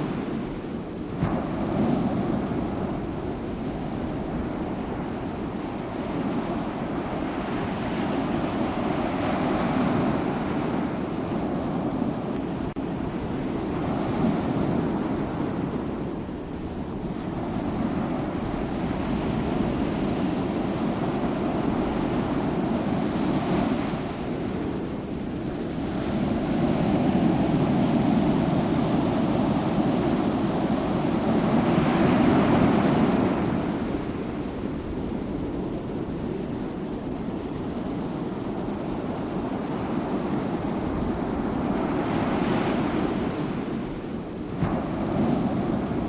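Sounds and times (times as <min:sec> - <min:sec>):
sea waves washing on shore: 0:00.0 - 0:46.0.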